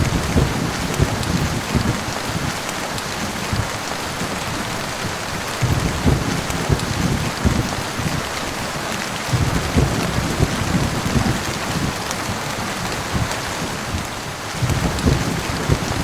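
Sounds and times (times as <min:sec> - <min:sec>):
heavy rain: 0:00.0 - 0:16.0
low thunder rumbling: 0:00.0 - 0:16.0.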